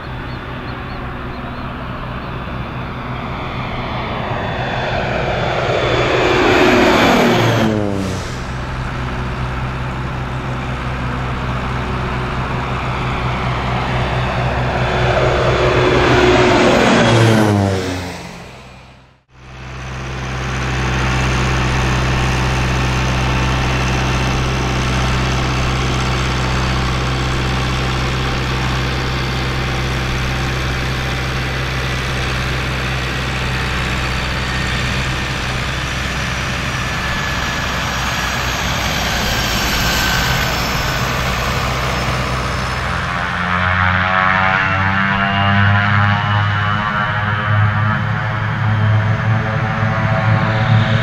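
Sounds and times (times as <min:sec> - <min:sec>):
turboprop engine running: 0:00.0 - 0:51.0.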